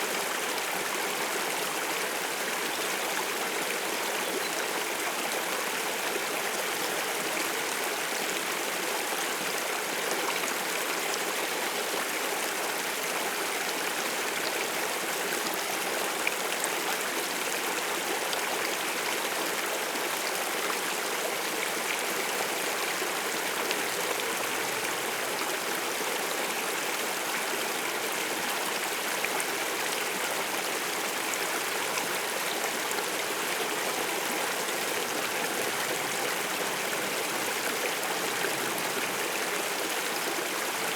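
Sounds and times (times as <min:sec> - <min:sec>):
water stream flowing: 0:00.0 - 0:40.9.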